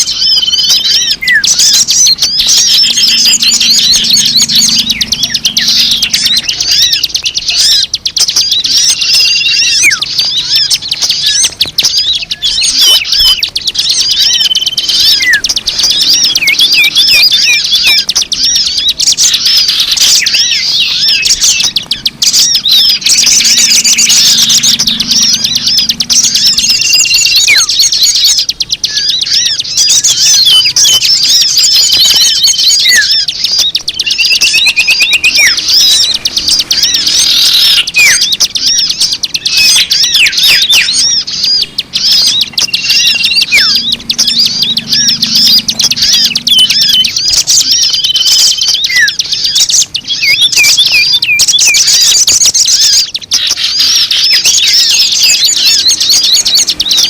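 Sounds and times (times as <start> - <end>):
down-sweeping bird chirps: 0.0 - 57.0
small birds chattering: 0.0 - 57.0
whistled bird notes: 0.0 - 57.0.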